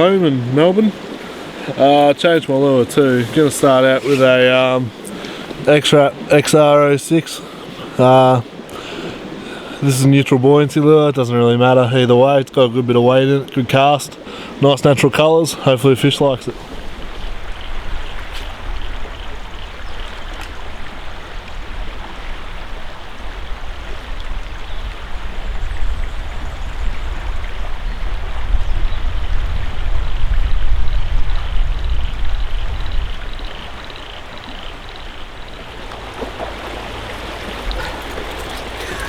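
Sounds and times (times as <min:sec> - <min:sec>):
creek water flowing: 0:00.0 - 0:39.0.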